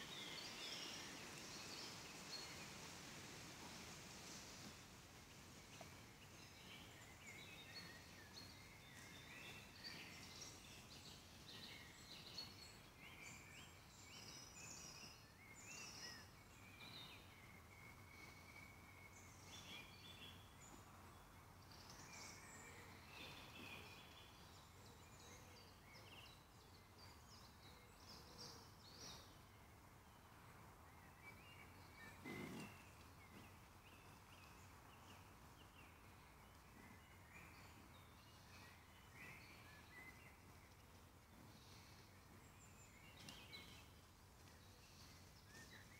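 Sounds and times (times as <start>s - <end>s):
low background noise: 0.0s - 45.9s
birds chirping and warbling: 3.7s - 45.9s.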